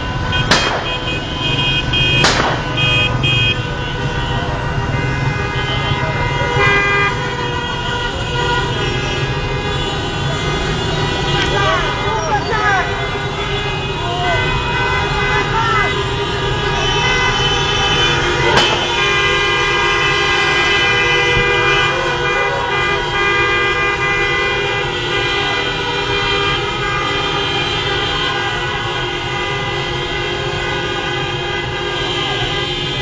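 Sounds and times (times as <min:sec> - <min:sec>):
car horns honking: 0:00.0 - 0:33.0.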